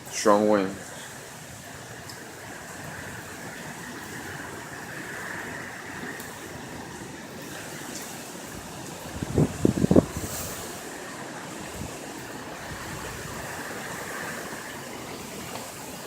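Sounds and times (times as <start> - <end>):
strong wind blowing: 1.2 - 16.0.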